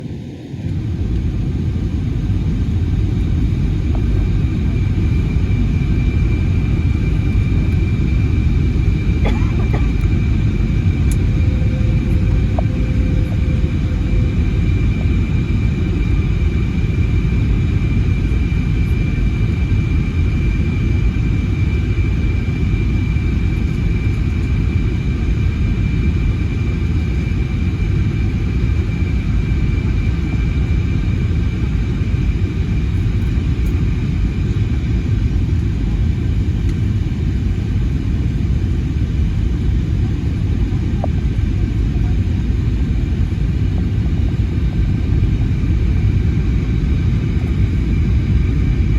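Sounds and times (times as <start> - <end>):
airliner cabin rumble: 0.0 - 48.9
high whine: 0.7 - 48.9.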